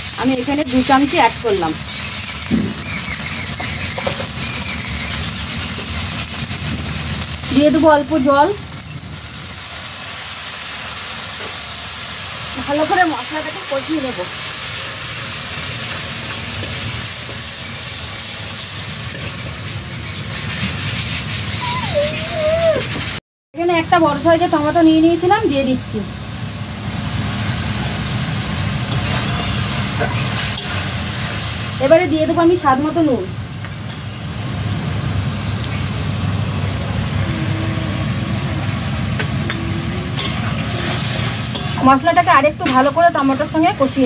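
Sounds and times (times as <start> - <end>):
paste sizzling in hot oil: 0.0 - 21.5, 26.7 - 39.5, 40.1 - 44.0.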